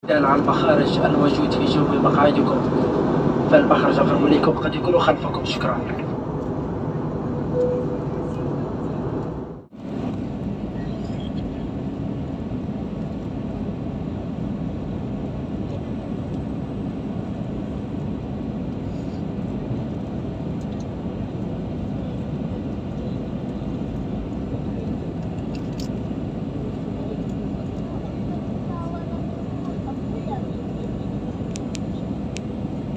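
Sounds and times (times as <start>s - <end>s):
airliner cabin drone: 0.0s - 32.9s.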